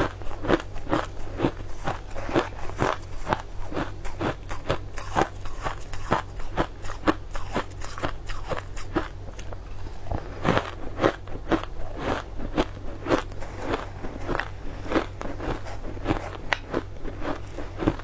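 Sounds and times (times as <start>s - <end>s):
shaved ice crunching being chewed: 0.0s - 18.0s.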